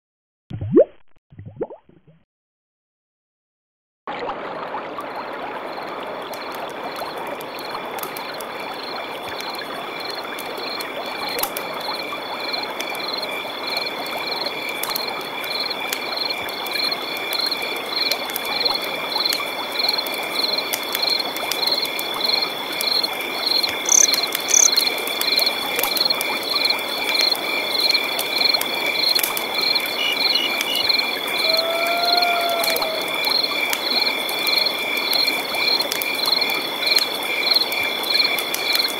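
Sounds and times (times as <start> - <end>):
crickets trilling: 5.7 - 38.9
frogs calling: 6.4 - 38.9.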